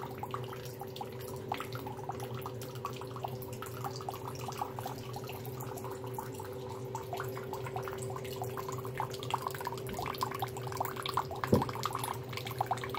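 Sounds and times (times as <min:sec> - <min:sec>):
tap water trickling into basin: 0:00.0 - 0:12.9.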